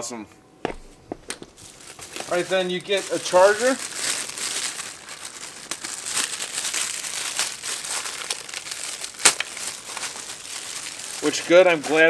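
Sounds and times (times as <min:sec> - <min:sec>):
plastic wrapping crinkling: 0:00.7 - 0:12.0.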